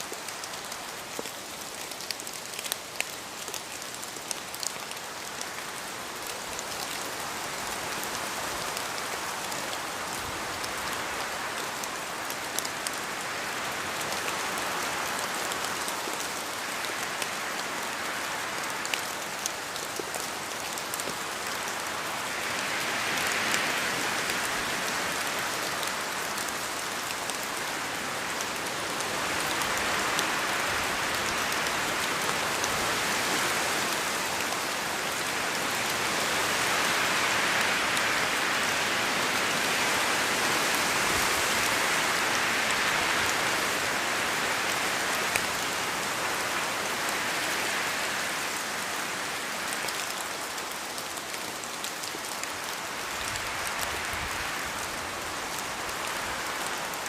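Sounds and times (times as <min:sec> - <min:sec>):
rain falling in a forest: 0:00.0 - 0:57.0.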